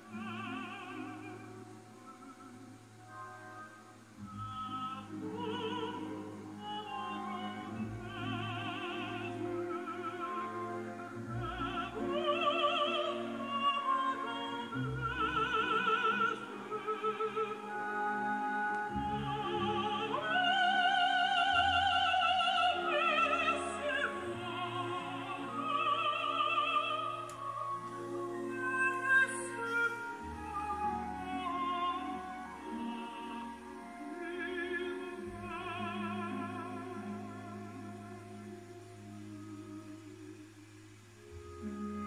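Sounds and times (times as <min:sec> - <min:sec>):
operatic singing with vibrato: 0:00.0 - 0:42.0
orchestral accompaniment: 0:00.0 - 0:42.0.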